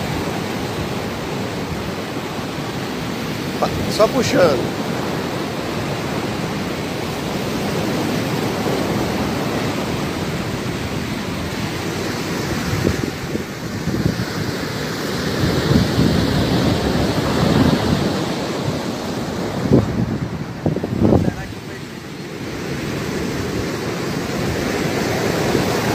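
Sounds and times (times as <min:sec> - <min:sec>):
ocean surf breaking on sand: 0:00.0 - 0:25.9
wind buffeting microphone: 0:00.0 - 0:25.9.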